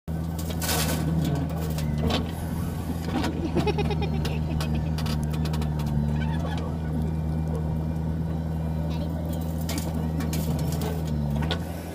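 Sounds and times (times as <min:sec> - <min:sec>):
diesel engines running: 0:00.1 - 0:11.9.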